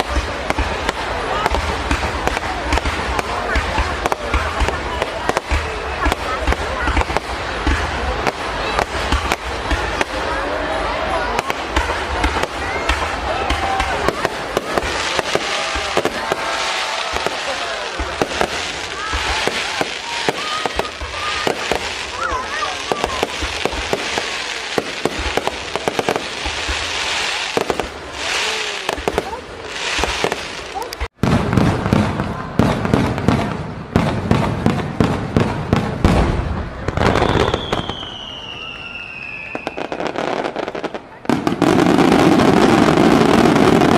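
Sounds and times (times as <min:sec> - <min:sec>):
fireworks bangs: 0:00.0 - 0:43.9
fireworks crackle: 0:00.0 - 0:43.9.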